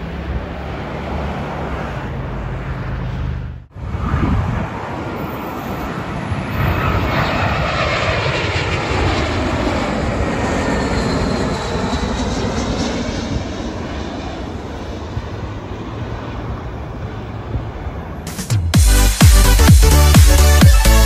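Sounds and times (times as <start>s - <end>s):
jet airliner passing overhead: 0.0s - 18.7s.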